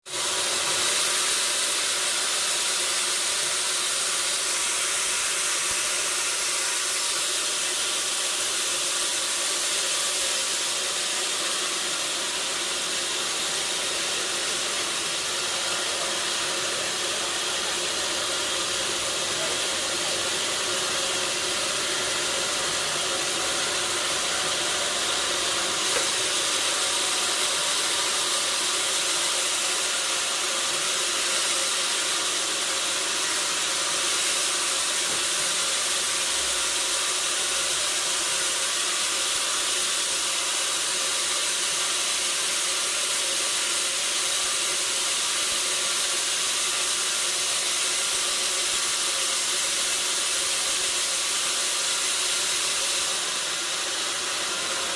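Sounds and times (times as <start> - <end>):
sawmill machinery hissing: 0.0 - 54.9.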